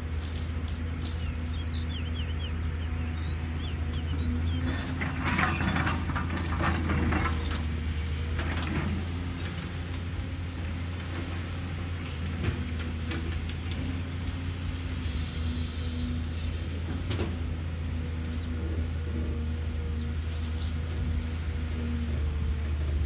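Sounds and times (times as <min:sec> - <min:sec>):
excavator diesel engine droning: 0:00.0 - 0:23.0.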